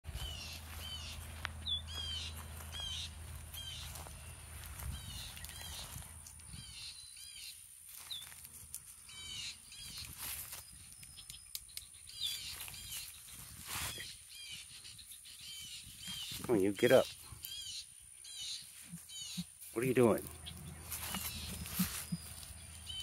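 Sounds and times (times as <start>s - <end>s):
bird chirps: 0.1s - 8.4s, 9.0s - 23.0s.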